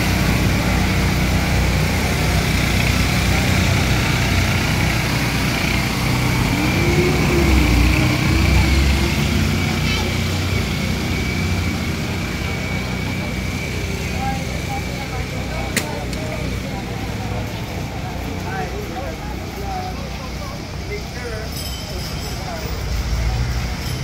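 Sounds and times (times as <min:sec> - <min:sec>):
crowd voices: 0:00.0 - 0:24.0
small engine droning: 0:00.0 - 0:24.0.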